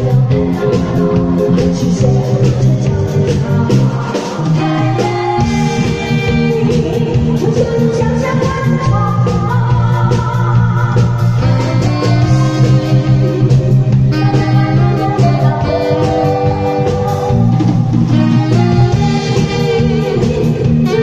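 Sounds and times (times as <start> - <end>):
drum kit beat: 0.0 - 21.0
electronic keyboard melody: 0.0 - 21.0
live band playing cha-cha: 0.0 - 21.0.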